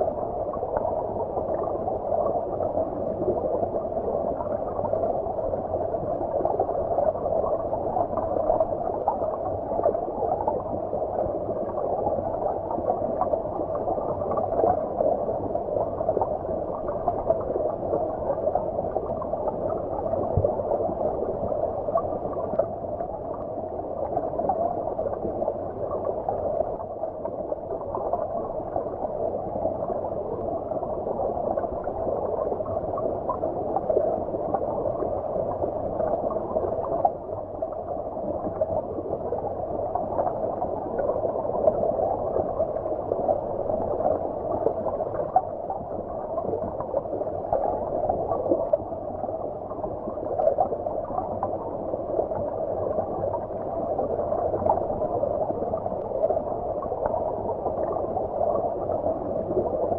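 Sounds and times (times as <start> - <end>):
small irregular crackles: 0.0 - 59.9
underwater stream rush: 0.0 - 59.9.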